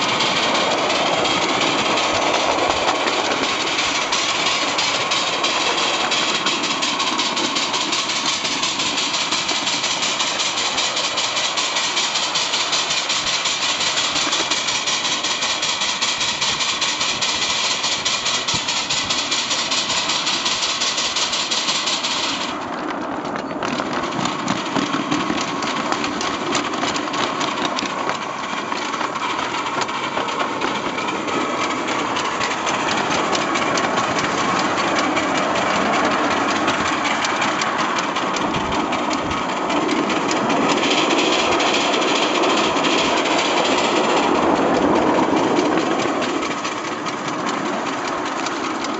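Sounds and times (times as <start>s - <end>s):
steam locomotive chuffing: 0.0s - 48.9s.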